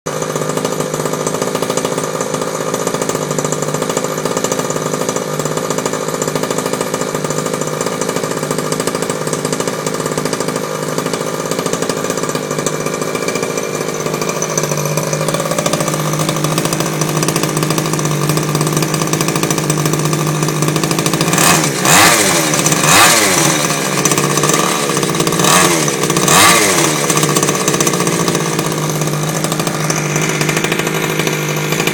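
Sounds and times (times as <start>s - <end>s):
truck engine idling and revving: 0.1s - 31.9s.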